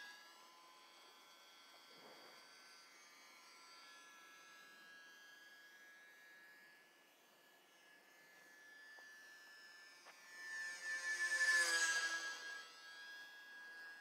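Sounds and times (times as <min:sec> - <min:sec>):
distant model plane motor whine: 0:00.0 - 0:14.0.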